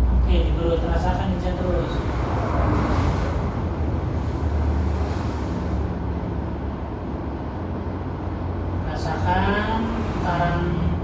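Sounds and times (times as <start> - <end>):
steady rumbling with low hum: 0.0 - 11.0.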